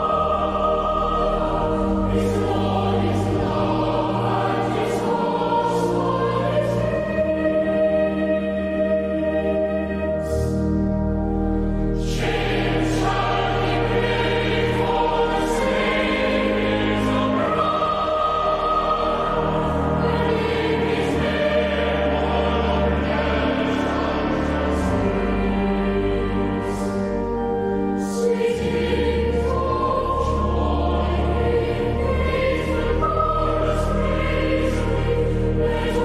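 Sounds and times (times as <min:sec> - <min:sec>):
choir singing a carol: 0:00.0 - 0:36.0.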